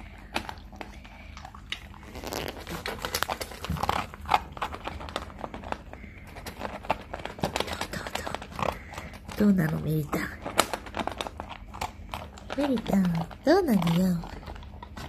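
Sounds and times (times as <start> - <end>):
dog crunching kibble: 0.0 - 15.0.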